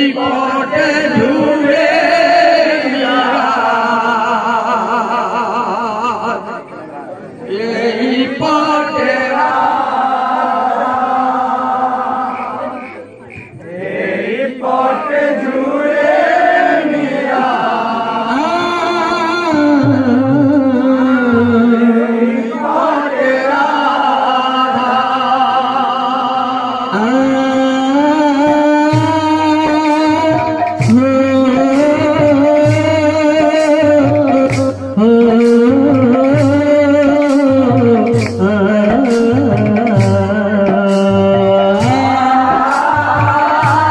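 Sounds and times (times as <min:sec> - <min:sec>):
man singing into microphone: 0:00.0 - 0:06.8, 0:07.5 - 0:13.8, 0:17.4 - 0:43.9.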